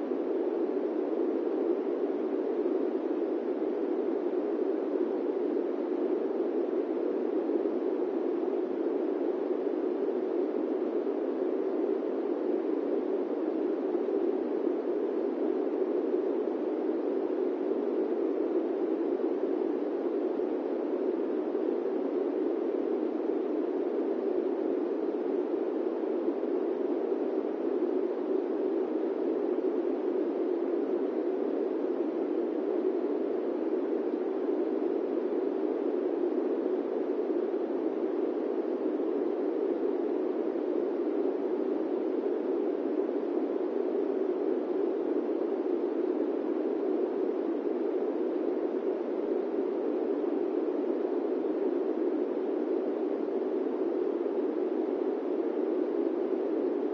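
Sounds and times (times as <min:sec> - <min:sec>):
airplane cabin white noise: 0:00.0 - 0:56.9.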